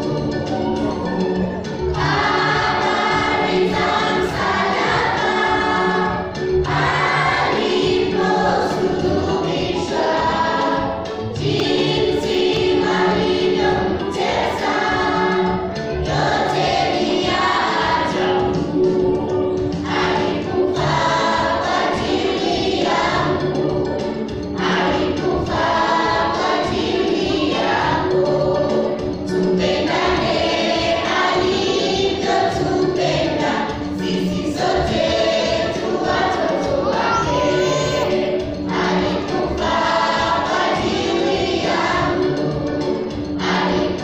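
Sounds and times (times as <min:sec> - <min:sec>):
children's choir singing gospel: 0:00.0 - 0:44.0.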